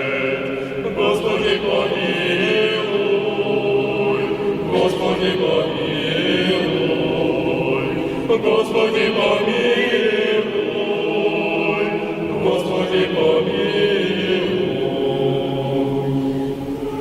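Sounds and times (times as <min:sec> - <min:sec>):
vocal ensemble chanting in harmony: 0:00.0 - 0:17.0.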